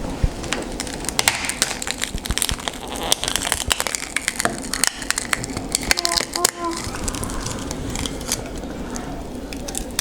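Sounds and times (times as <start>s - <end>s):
glass crackling and snapping: 0.4s - 10.0s.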